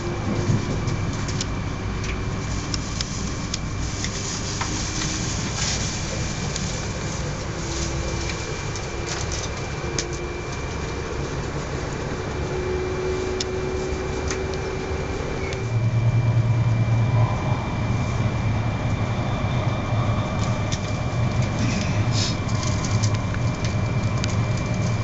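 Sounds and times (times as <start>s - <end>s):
high whine: 0.0s - 25.0s
train interior rumble and hiss: 0.0s - 25.0s.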